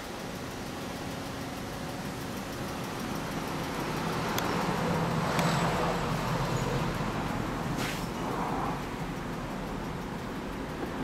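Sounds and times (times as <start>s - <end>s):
motorcycle engine idling: 0.0s - 7.8s, 8.7s - 11.0s.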